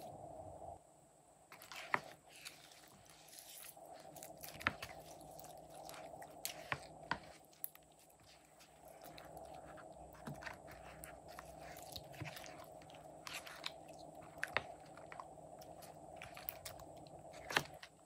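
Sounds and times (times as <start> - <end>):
slime squelching: 1.5 - 18.0.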